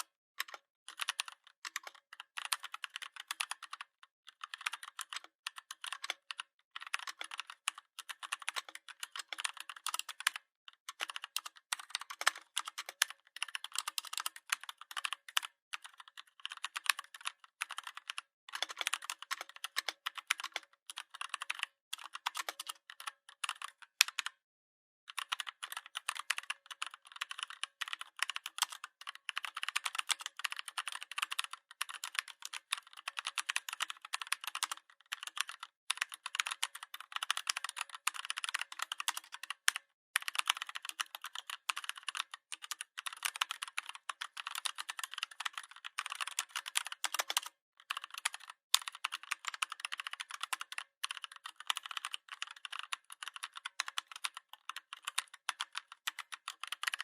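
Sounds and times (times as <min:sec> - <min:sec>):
keyboard typing clicks: 0:00.0 - 0:15.9, 0:16.5 - 0:24.4, 0:25.1 - 0:57.0.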